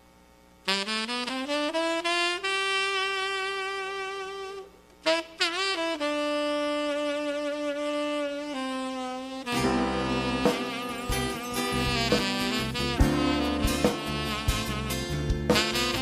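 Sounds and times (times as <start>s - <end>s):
solo saxophone melody: 0.6s - 16.0s.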